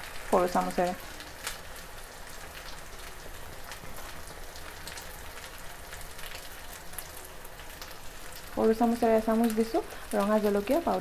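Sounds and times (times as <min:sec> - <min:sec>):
onions frying in oil: 0:00.0 - 0:11.0.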